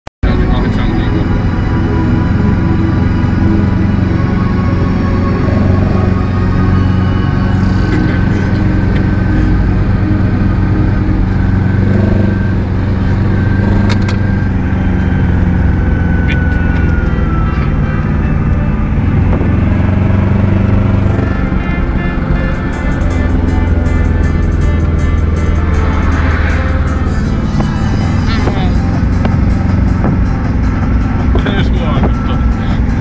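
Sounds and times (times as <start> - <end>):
microcar engine running: 0.2 - 33.0.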